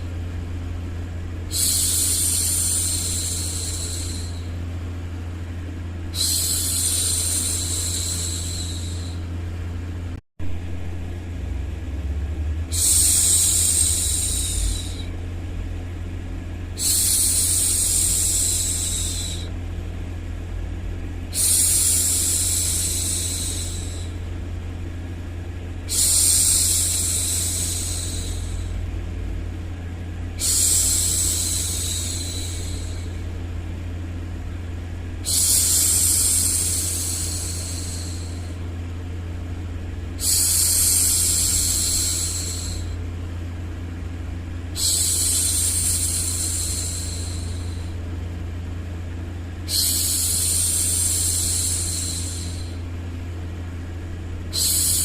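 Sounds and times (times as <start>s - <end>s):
low white noise hum: 0.0s - 55.0s.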